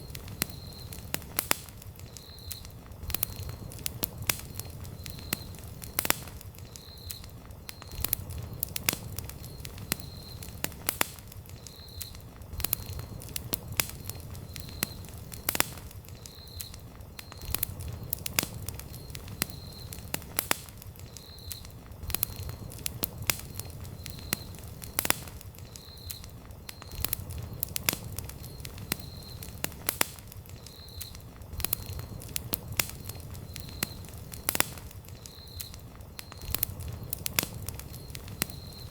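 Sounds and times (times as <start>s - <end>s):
campfire popping and crackling: 0.0s - 38.9s
flames rumbling: 0.0s - 38.9s.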